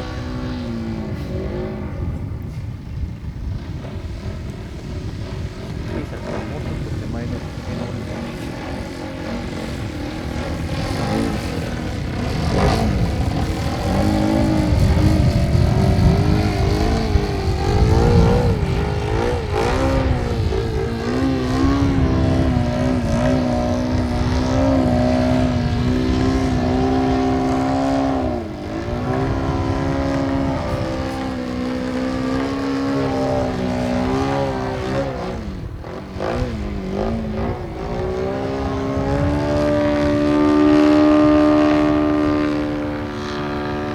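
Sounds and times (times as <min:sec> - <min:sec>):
model airplane engine and propeller: 0:00.0 - 0:43.9
wind on microphone: 0:00.0 - 0:43.9.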